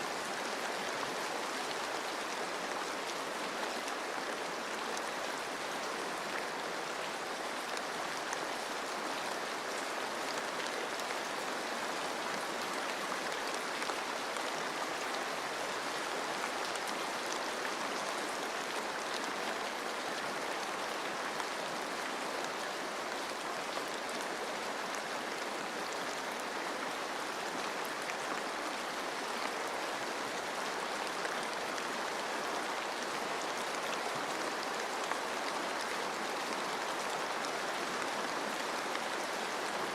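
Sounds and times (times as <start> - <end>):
rain falling on leaves: 0.0 - 39.9
stream water rushing: 0.0 - 39.9.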